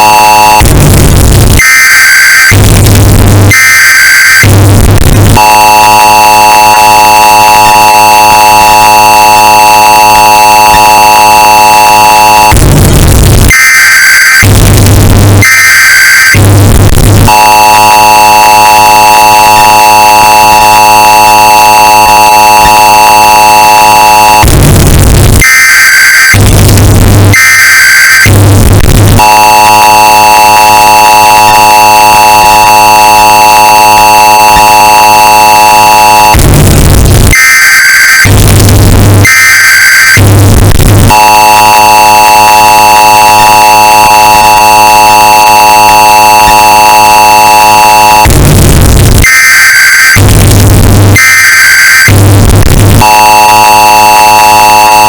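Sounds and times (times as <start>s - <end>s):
screeching digital data bursts: 0.0s - 0.7s, 3.6s - 12.6s, 13.4s - 40.4s, 41.0s - 48.5s, 53.0s - 55.0s
heavy low buzz: 0.0s - 51.2s, 52.0s - 55.0s
distorted two-tone alarm blare: 0.0s - 55.0s.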